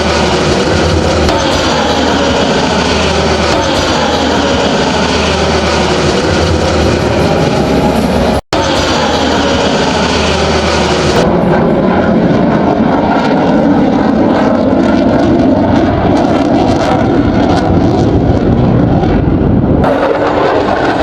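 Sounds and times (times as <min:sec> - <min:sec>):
fighter jet engine noise: 0:00.0 - 0:21.0.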